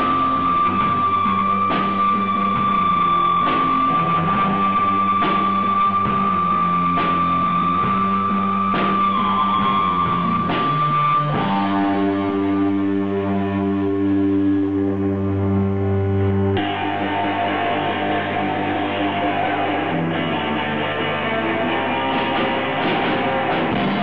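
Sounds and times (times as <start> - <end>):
bass notes: 0.0 - 24.0
distorted electric guitar: 0.0 - 24.0.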